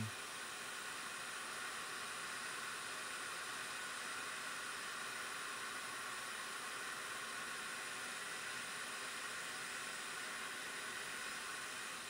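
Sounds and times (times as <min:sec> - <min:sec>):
hot air blower hissing: 0:00.0 - 0:12.0.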